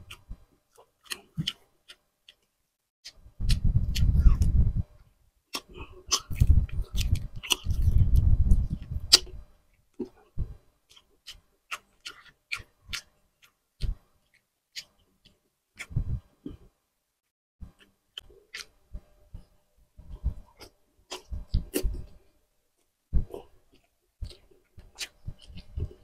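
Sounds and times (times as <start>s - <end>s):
chewing and lip-smacking: 0.1s - 4.6s, 5.5s - 9.4s, 10.0s - 16.6s, 17.7s - 26.0s.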